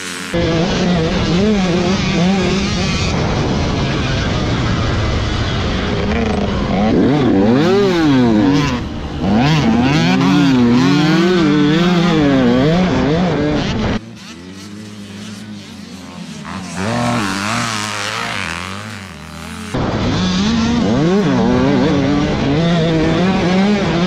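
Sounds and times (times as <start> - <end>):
dirt bike engine revving: 0.0 - 24.0
dirt bike engines beside track: 0.0 - 24.0.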